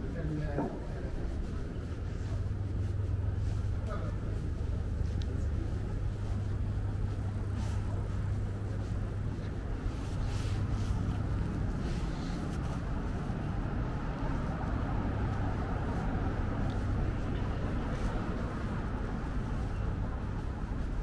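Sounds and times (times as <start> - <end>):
low engine hum: 0.0 - 21.0
road noise: 0.0 - 21.0.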